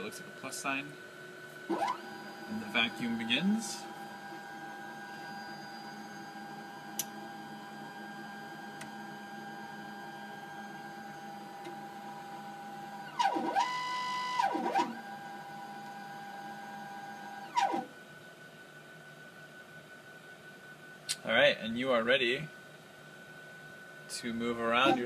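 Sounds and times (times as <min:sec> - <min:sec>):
vacuum pump mechanical whine: 0:00.0 - 0:25.0.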